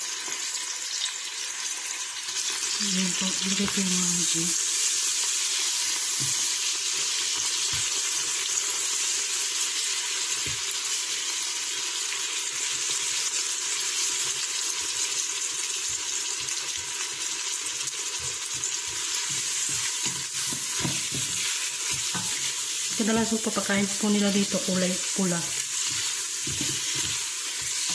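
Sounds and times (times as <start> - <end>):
vegetables sizzling in hot oil: 0.0 - 27.9.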